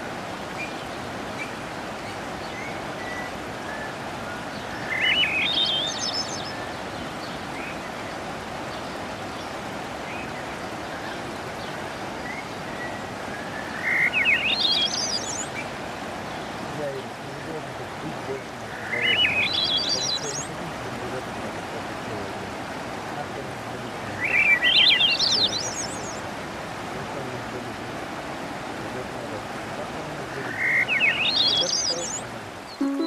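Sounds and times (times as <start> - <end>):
water rushing over small waterfall: 0.0 - 32.8
songbird singing rising phrase: 0.6 - 22.4, 23.2 - 26.3, 28.8 - 33.0.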